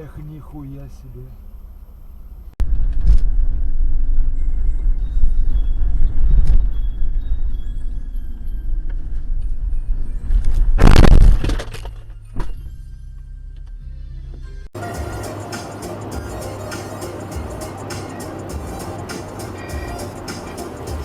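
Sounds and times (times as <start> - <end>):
car road rumble: 0.0 - 21.0.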